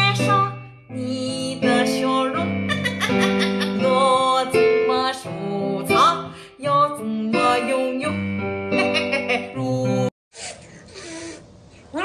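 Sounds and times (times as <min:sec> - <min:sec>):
person singing: 0:00.0 - 0:10.1.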